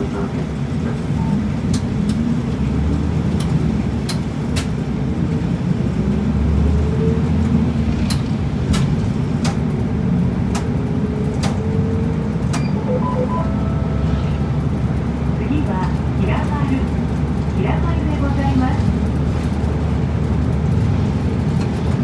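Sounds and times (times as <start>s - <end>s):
bus engine drone with whine: 0.0s - 22.0s.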